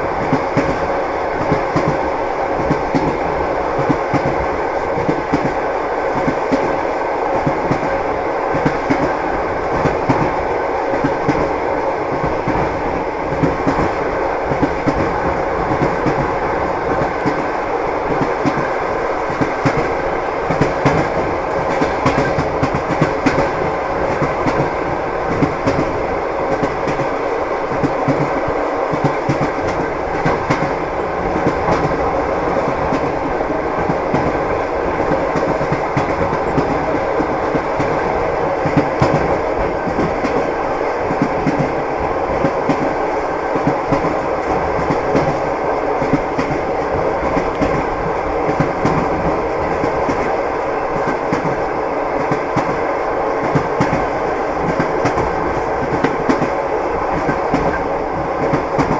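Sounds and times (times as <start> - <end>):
train running rumble: 0.0 - 58.9
train wheels clacking over rail joints: 0.2 - 58.9.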